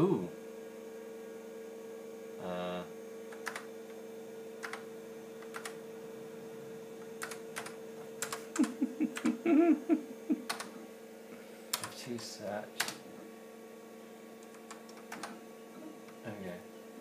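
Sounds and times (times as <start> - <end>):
computer hum: 1.3 - 17.0.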